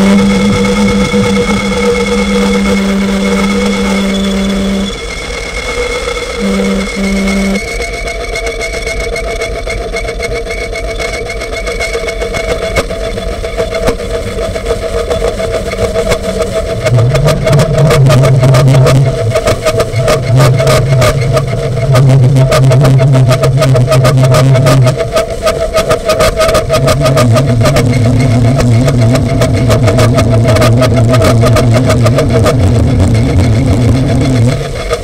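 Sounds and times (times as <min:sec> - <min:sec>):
loud low buzz: 0:00.0 - 0:09.9, 0:10.8 - 0:35.0
crackling clicks: 0:00.0 - 0:35.0
droning electronic hum: 0:00.0 - 0:35.0.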